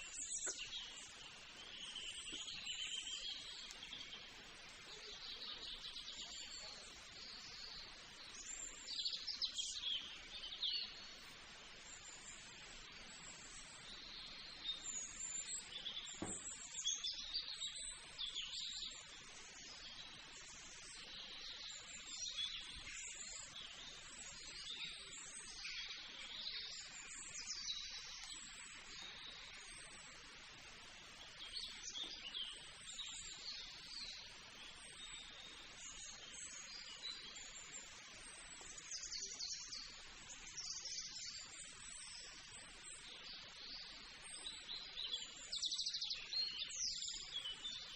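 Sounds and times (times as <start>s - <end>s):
low background hiss: 0.0s - 47.9s
small birds chirping: 0.0s - 47.9s.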